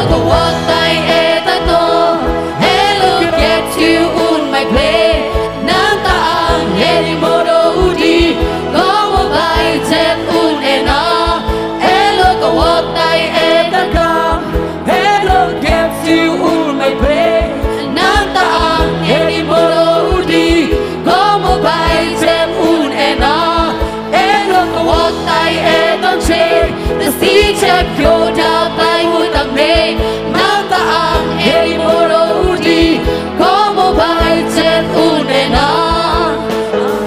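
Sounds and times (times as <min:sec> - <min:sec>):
amplified band with steady beat: 0:00.0 - 0:37.0
group singing into microphones: 0:00.0 - 0:37.0.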